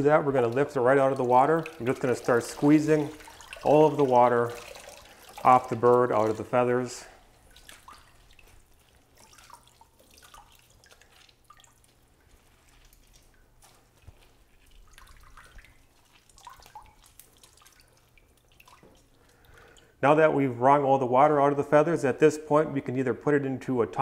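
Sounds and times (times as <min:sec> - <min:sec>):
water dripping into a tub: 0:00.0 - 0:23.0.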